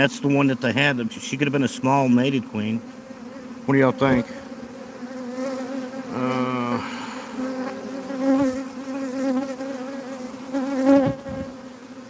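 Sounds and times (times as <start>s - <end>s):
swarm of bees buzzing: 0.0s - 12.0s.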